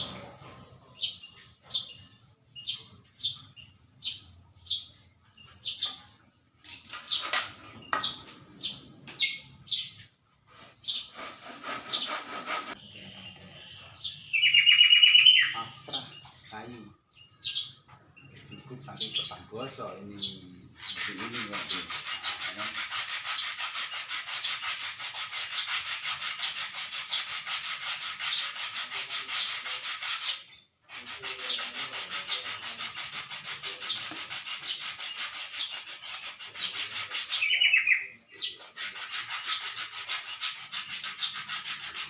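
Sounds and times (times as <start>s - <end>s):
sandpaper rubbing back and forth: 0.0s - 8.8s, 9.6s - 12.9s, 18.7s - 42.0s.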